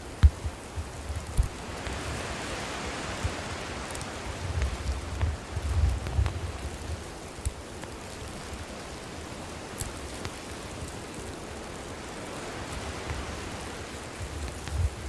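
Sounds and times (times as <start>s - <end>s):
campfire hissing and crackling: 0.0s - 15.0s.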